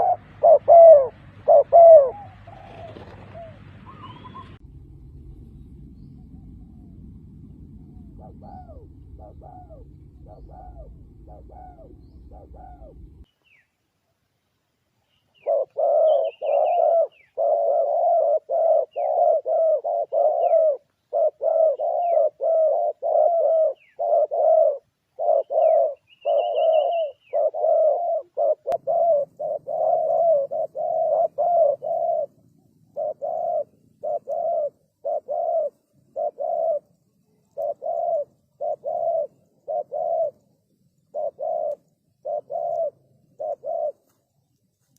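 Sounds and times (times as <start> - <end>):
dove cooing: 0.0 - 4.6, 7.7 - 13.3, 15.3 - 44.4
small birds chirping: 0.0 - 4.6, 7.7 - 13.8, 14.4 - 44.9.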